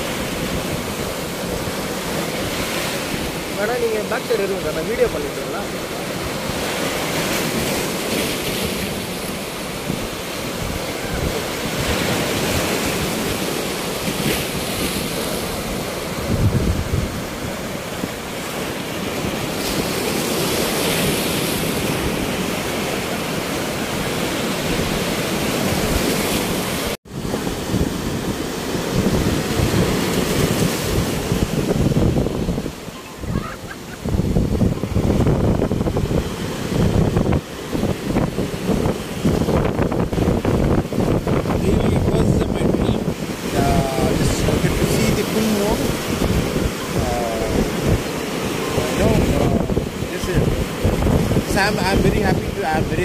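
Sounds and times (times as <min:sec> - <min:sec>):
surf breaking on beach: 0:00.0 - 0:53.0
wind buffeting microphone: 0:00.0 - 0:53.0.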